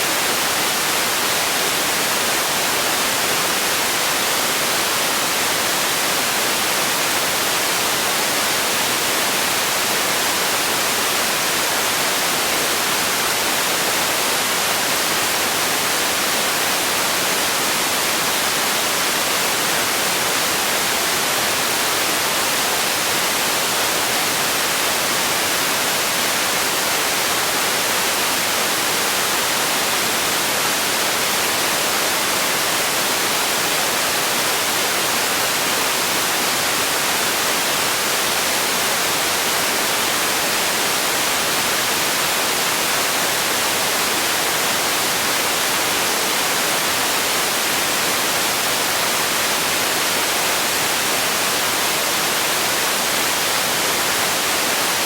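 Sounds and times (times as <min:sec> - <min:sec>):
steady noise hiss: 0:00.0 - 0:55.0.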